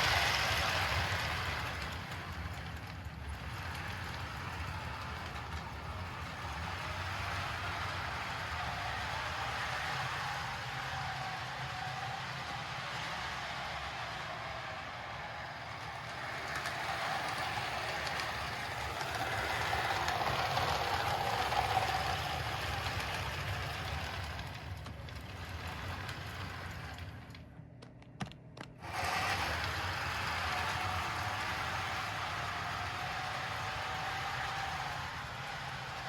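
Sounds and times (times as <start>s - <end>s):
toy train motor whirring: 0.0s - 27.4s, 28.8s - 36.0s
wheels rattling on rails: 0.0s - 27.9s, 28.8s - 36.0s.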